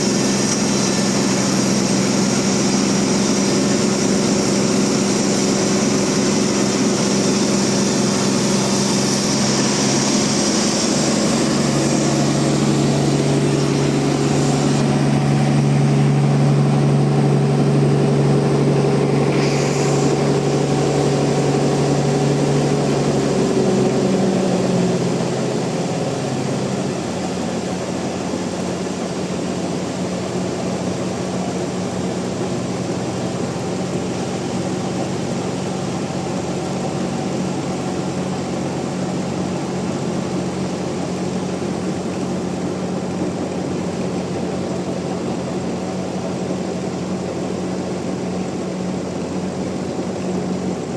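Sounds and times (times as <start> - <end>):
sawmill machine hum: 0.0 - 50.9.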